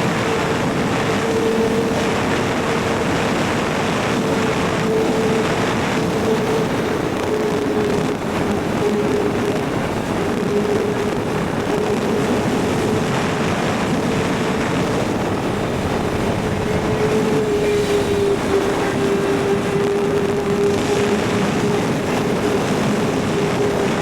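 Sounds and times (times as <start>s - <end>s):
motorcycle engine steady: 0.0s - 24.0s
wind noise: 0.0s - 24.0s.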